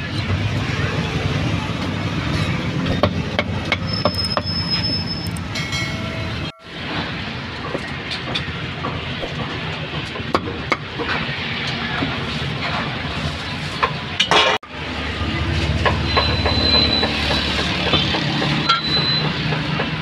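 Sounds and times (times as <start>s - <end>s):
low rumble of market crowd: 0.0s - 20.0s.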